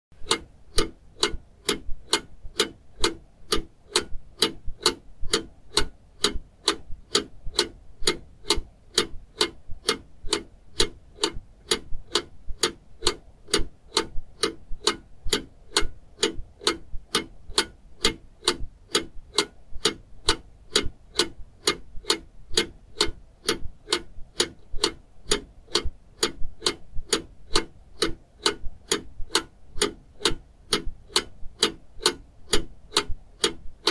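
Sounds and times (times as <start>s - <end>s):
mechanical ticking: 0.2s - 33.9s.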